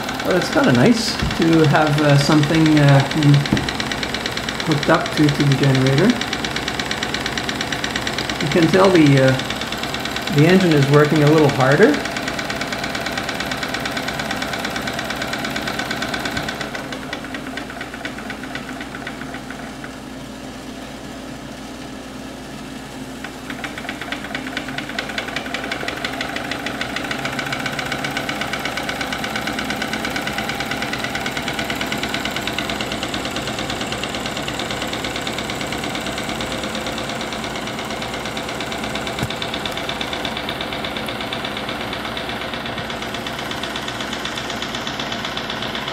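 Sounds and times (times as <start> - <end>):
small steam engine running fast: 0.0 - 45.9.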